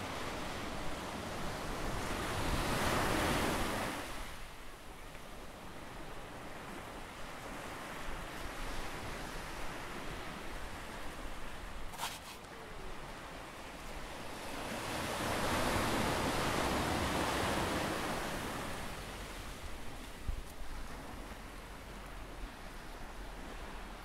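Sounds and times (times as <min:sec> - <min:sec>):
ocean surf washing: 0:00.0 - 0:24.0.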